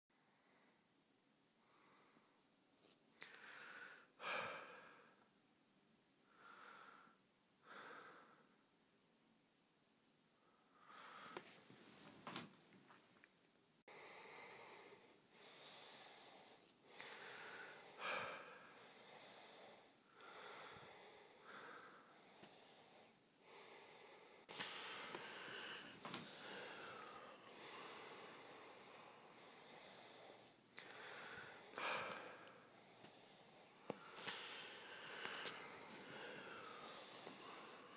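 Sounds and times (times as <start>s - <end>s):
person breathing: 1.6s - 5.2s, 6.3s - 8.6s, 10.4s - 12.4s, 13.9s - 37.9s.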